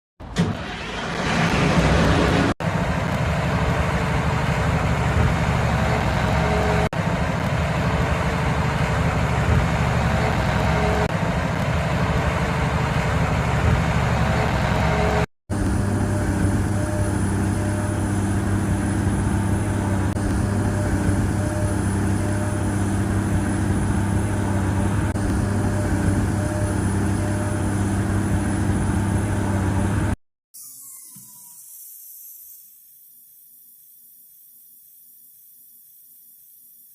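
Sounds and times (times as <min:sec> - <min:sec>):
excavator diesel engine running: 0:00.2 - 0:30.2.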